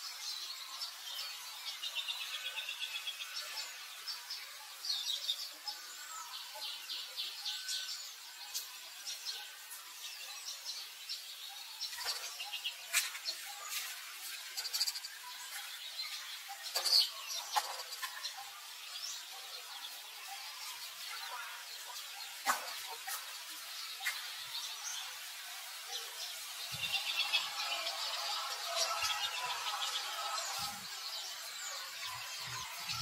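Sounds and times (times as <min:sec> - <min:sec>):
faint outdoor hiss: 0:00.0 - 0:33.0
small birds chirping: 0:00.0 - 0:33.0.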